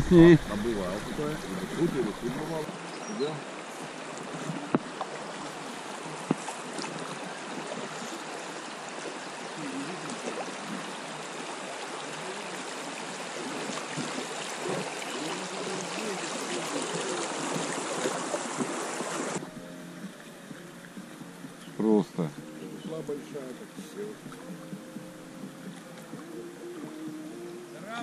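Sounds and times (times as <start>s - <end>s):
river water rushing and gurgling: 0.0s - 28.0s.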